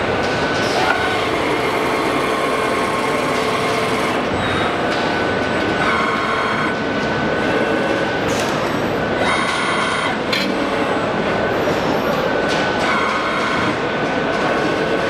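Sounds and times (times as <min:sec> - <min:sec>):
machine mechanical running noise: 0:00.0 - 0:15.0
whining motor tones: 0:00.0 - 0:15.0.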